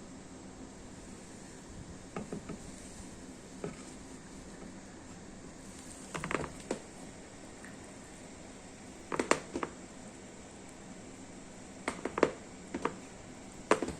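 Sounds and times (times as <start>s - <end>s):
steady low hiss: 0.0s - 13.9s.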